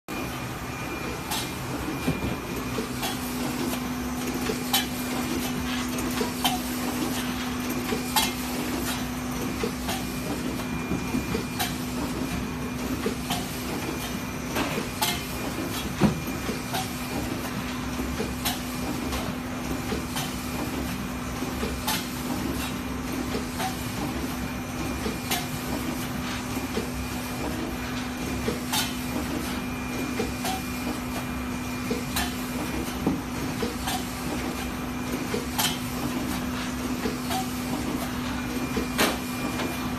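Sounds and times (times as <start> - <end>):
packaging machine humming: 0.1 - 39.9.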